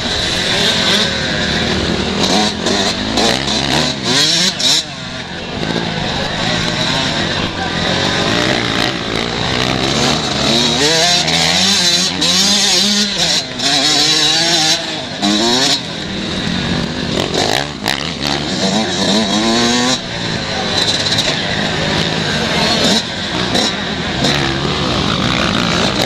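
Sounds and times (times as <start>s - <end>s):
motocross bike engines revving: 0.0s - 26.0s.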